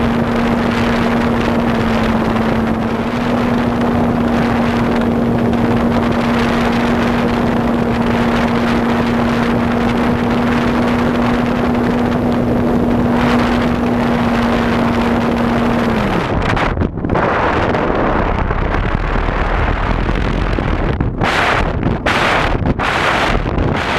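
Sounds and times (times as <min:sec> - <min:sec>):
light aircraft engine drone: 0:00.0 - 0:23.9
wind rush on microphone: 0:00.0 - 0:23.9.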